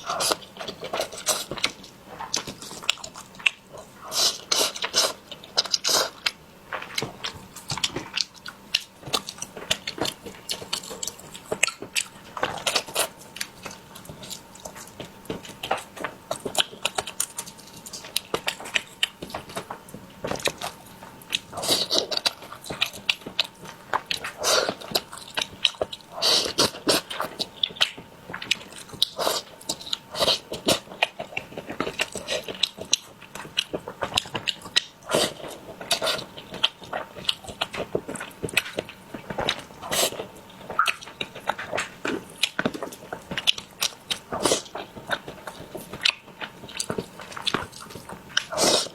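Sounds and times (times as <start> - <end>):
person chewing and biting food: 0.0 - 48.9.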